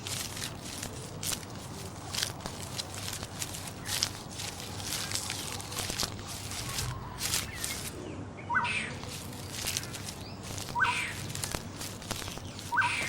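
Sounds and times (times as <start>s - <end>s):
rustling noise: 0.0s - 8.0s, 8.9s - 13.0s.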